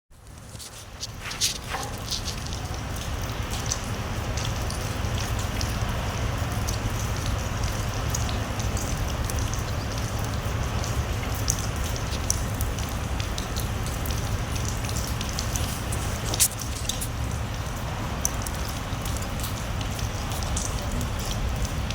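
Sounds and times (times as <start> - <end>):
raindrops pattering: 0.1 - 21.9.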